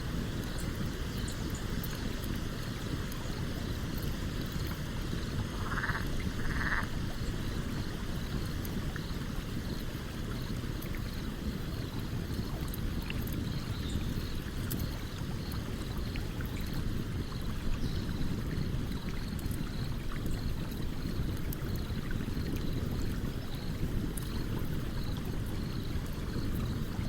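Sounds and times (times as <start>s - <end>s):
stream water running: 0.0s - 27.0s.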